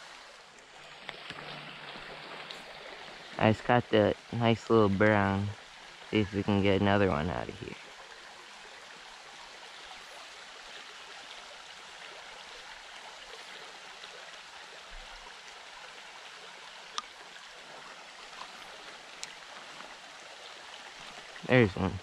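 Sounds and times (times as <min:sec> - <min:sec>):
creek water rushing over gravel: 0:00.0 - 0:22.0.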